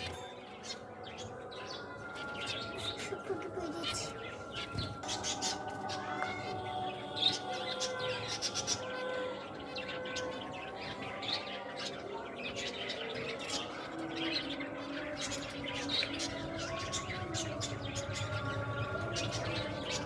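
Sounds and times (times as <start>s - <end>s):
pet birds chirping: 0.0s - 20.0s.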